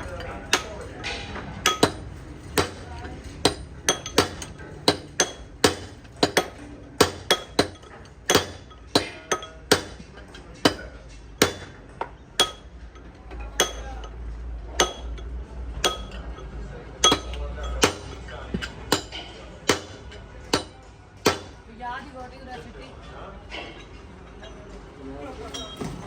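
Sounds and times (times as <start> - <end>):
hammer striking steel: 0.0 - 21.7.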